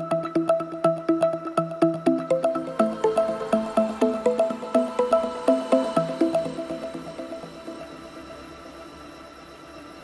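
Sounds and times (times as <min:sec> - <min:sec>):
plucked background music: 0:00.0 - 0:08.3.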